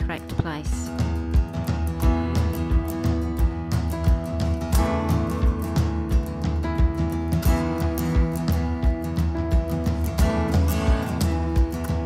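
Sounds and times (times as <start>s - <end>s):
steady beat: 0.0s - 12.0s
strummed guitar: 0.0s - 12.0s.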